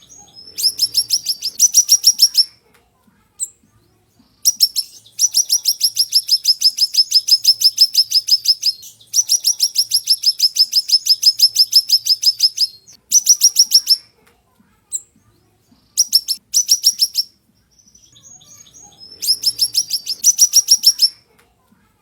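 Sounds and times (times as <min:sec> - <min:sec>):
songbird singing rapid trills: 0:00.0 - 0:02.5, 0:03.4 - 0:14.0, 0:15.9 - 0:21.2.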